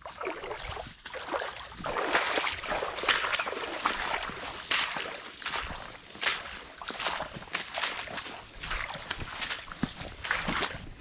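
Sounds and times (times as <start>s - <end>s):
boots walking on wet ground: 1.0s - 11.0s.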